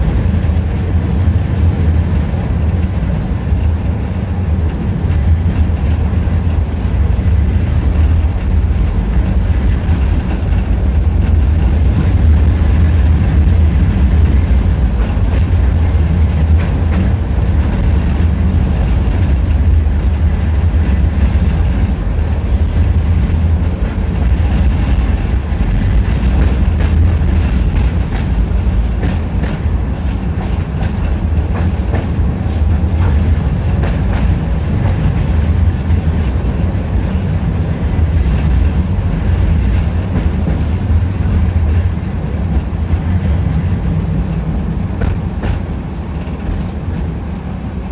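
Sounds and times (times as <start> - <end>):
wheels clicking over track: 0.0 - 47.7
tram rumbling on rails: 0.0 - 47.9.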